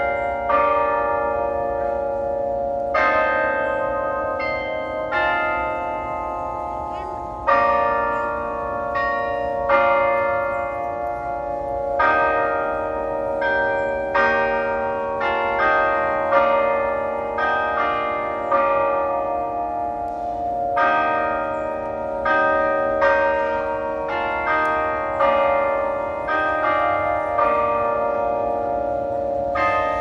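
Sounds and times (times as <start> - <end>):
clock bells playing a slow tune: 0.0 - 30.0.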